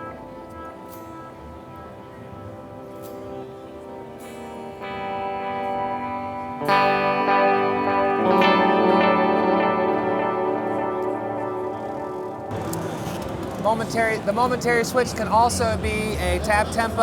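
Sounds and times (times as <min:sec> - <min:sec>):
electric guitar chords with delay: 0:00.0 - 0:17.0.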